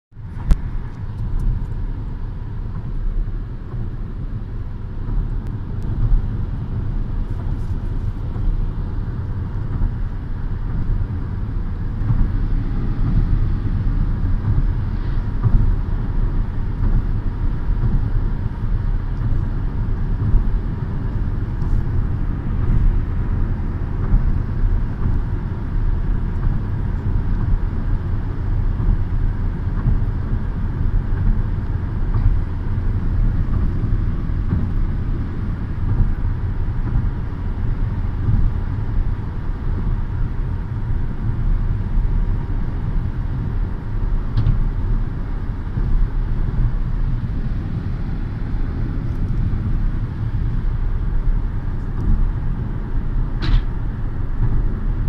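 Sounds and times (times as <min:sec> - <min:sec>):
road and engine noise in car: 0:00.0 - 0:55.0.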